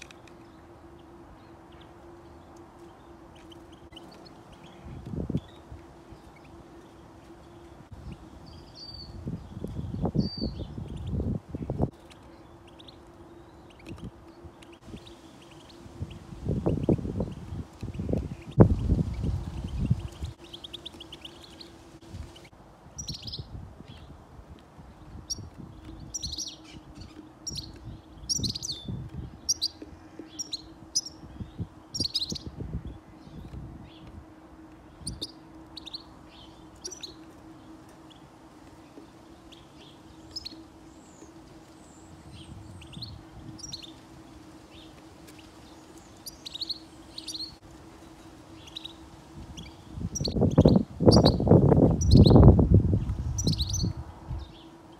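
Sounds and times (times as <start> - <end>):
faint steady hum: 0.0 - 54.9
songbirds chirping: 0.0 - 54.9.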